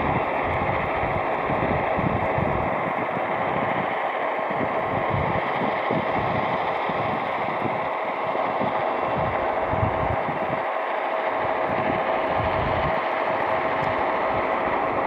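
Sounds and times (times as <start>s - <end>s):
wind buffeting microphone: 0.0s - 10.7s, 11.3s - 15.0s
moving train rumbling: 0.0s - 15.0s.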